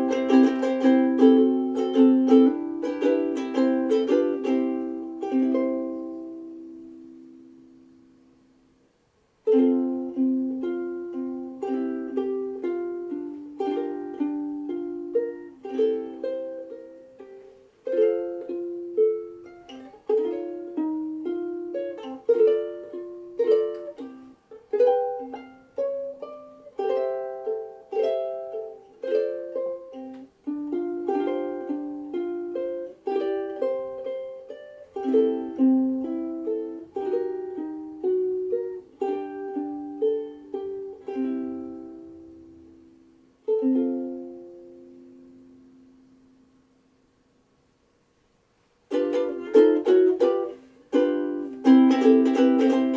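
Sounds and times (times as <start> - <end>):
ukulele fingerpicked melody: 0.0 - 47.1, 48.4 - 52.9.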